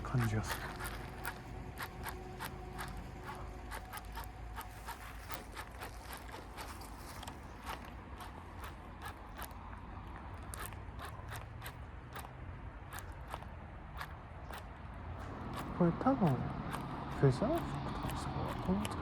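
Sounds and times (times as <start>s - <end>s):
fishing reel clicking: 0.0s - 19.0s.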